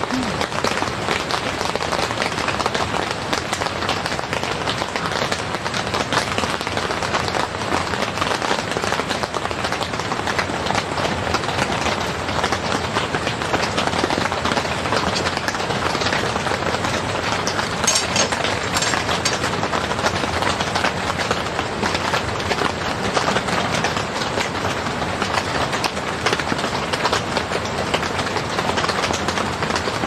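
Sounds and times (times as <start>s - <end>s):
heavy rain on tent fabric: 0.0s - 30.0s.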